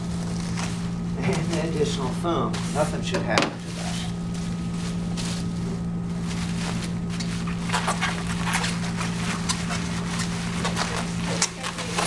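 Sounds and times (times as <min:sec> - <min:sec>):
bubble wrap crinkling: 0:00.0 - 0:01.7, 0:03.6 - 0:12.0
steady low hum: 0:00.0 - 0:12.0.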